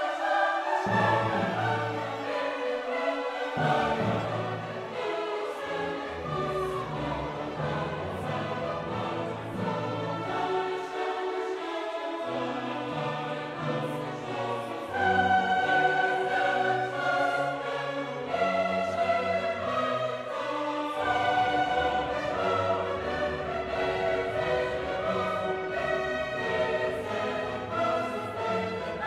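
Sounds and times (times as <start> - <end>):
orchestral and choral music: 0.0 - 29.0.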